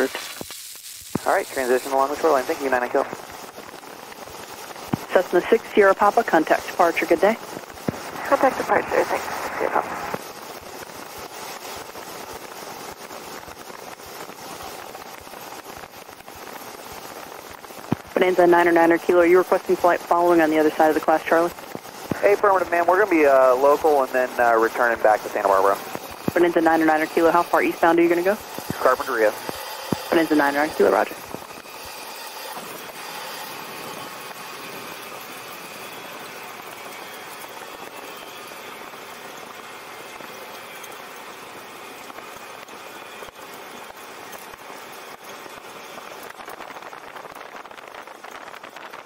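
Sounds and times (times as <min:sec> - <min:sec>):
aircraft engine and propeller hiss: 0:00.0 - 0:49.0.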